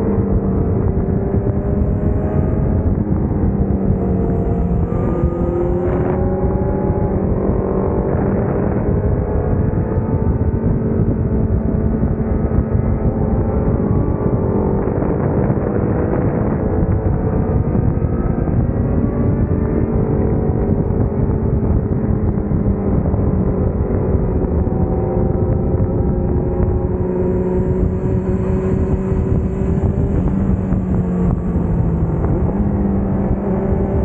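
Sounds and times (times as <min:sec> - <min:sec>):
motorcycle engine running: 0:00.0 - 0:34.0
wind rush: 0:00.0 - 0:34.0.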